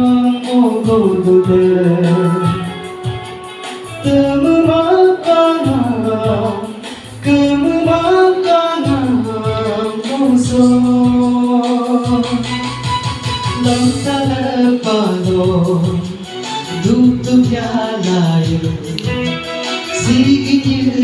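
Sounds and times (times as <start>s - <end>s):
person singing: 0.0s - 21.0s
steady beat: 0.0s - 21.0s.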